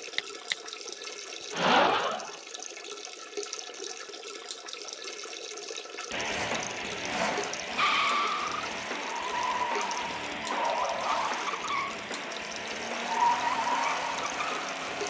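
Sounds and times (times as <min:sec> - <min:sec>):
water running: 0:00.0 - 0:15.0.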